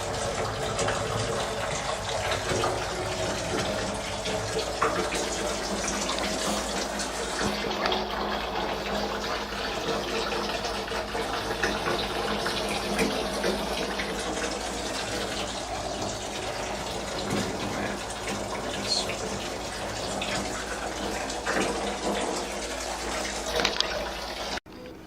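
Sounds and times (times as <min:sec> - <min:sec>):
tap running into a bathtub: 0:00.0 - 0:24.9.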